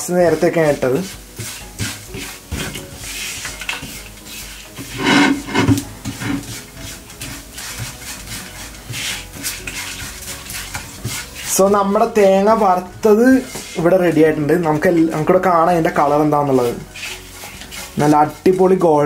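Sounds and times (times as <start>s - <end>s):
spatula scraping frying pan: 0.0s - 19.0s.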